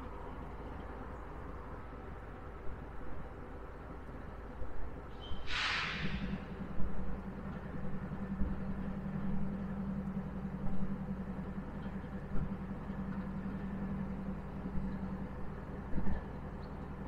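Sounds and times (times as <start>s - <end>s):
diesel locomotive engine idling: 0.0s - 17.0s.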